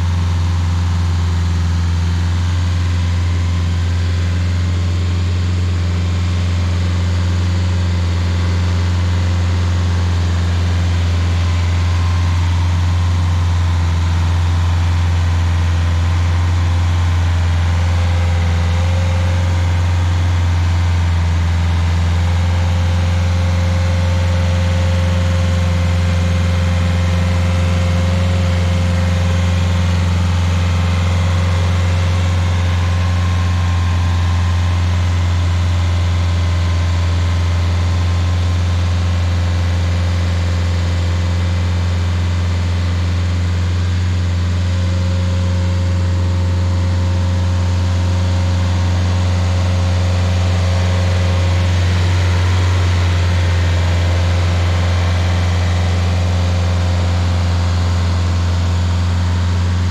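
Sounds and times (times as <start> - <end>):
stump grinder engine humming: 0.0 - 59.9.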